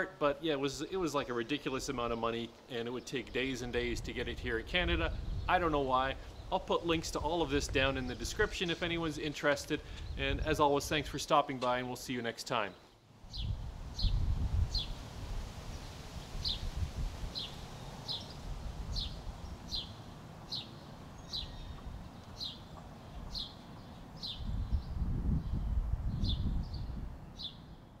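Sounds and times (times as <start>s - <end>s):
songbird chirping: 0.0s - 15.0s, 15.7s - 28.0s.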